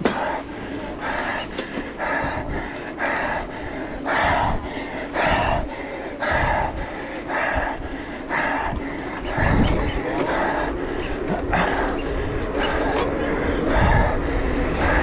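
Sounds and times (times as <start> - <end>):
low rumble: 0.0 - 15.0
person breathing hard: 0.0 - 15.0.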